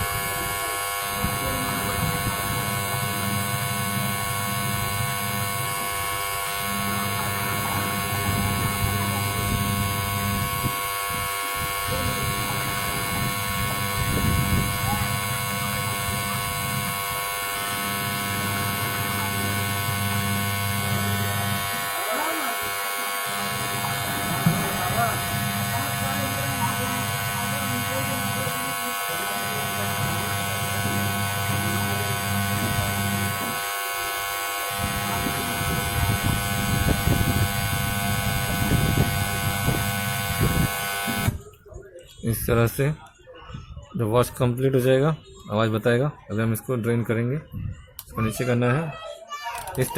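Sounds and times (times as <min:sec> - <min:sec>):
washing machine motor humming: 0:00.0 - 0:41.5.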